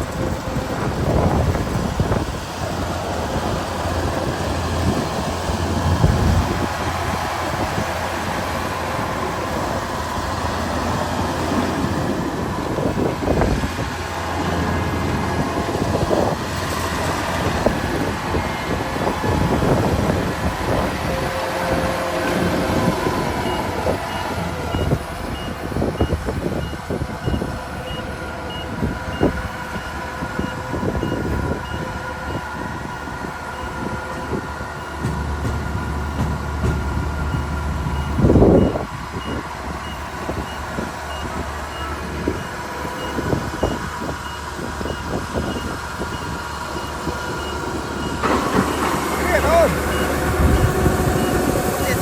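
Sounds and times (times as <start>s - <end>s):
combine harvester running: 0.0s - 52.0s.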